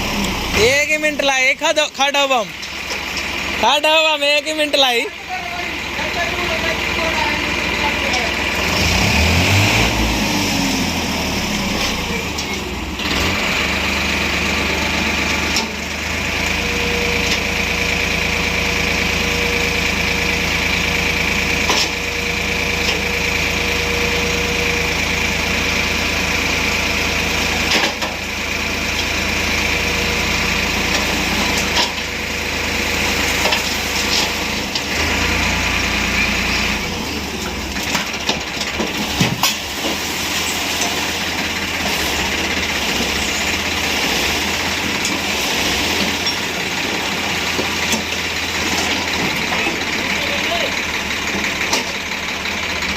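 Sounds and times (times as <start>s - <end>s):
diesel engine running with whine: 0.0s - 52.9s.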